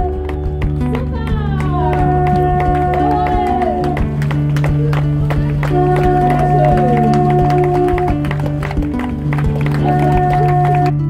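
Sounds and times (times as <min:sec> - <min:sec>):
long held notes: 0:00.0 - 0:11.0
steady low drone: 0:00.0 - 0:11.0.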